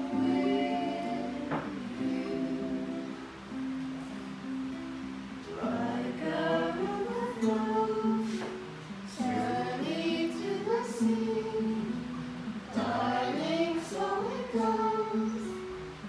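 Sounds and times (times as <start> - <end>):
girls singing together: 0.0 - 3.6, 5.4 - 15.8
strummed acoustic guitar: 0.0 - 16.0.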